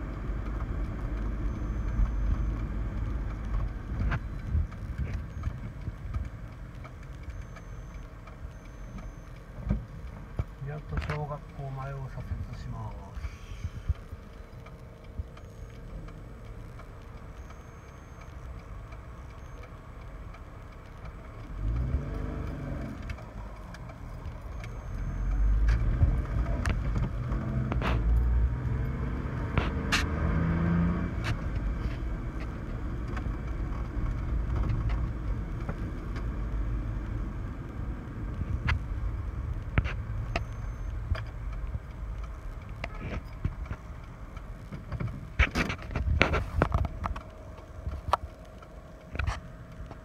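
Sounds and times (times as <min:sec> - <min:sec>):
car engine and road noise: 0:00.0 - 0:50.0.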